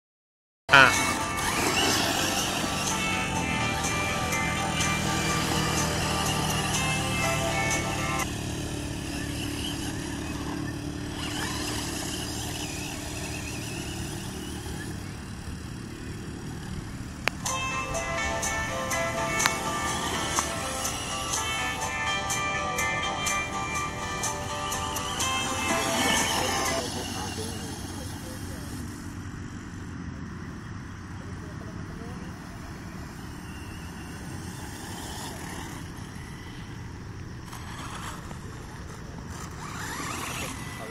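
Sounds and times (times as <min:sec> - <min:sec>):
electric motor whine: 0:00.7 - 0:30.5, 0:31.9 - 0:40.9
rough rolling noise: 0:00.7 - 0:40.9.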